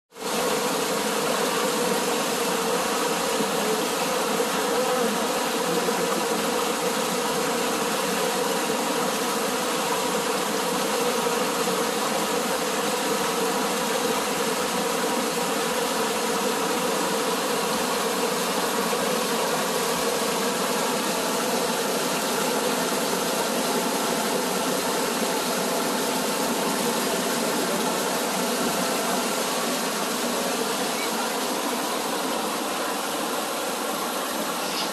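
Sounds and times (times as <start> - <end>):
stream rushing over boulders: 0.2 - 34.9.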